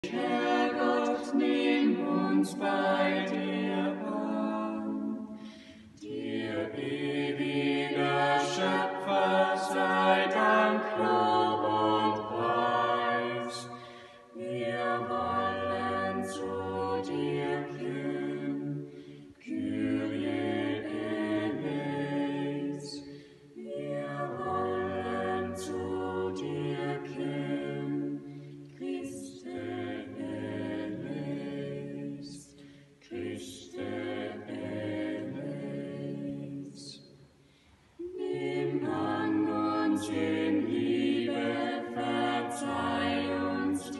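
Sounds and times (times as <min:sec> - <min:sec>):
vocal ensemble singing a cappella: 0:00.0 - 0:43.9.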